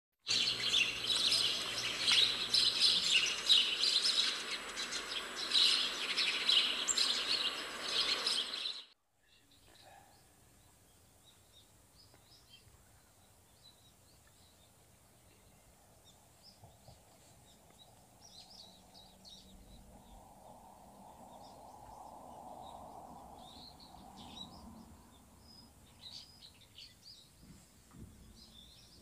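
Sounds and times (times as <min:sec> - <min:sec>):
birds chirping densely: 0:00.2 - 0:27.4, 0:28.1 - 0:29.0
distant bird chirps: 0:00.2 - 0:27.4.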